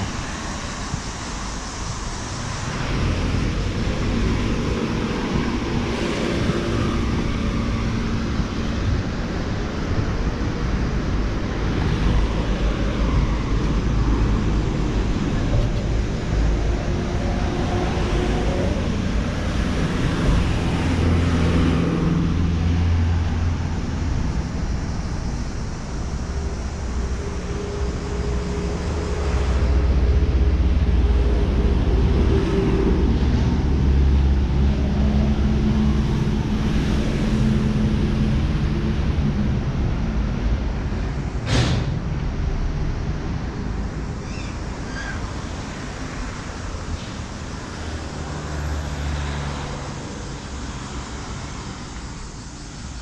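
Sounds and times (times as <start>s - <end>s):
street traffic passing: 0.0s - 53.0s.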